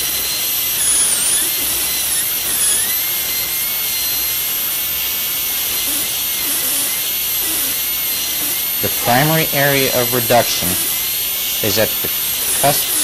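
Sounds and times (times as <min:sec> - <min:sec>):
dental drill whining: 0:00.0 - 0:13.0.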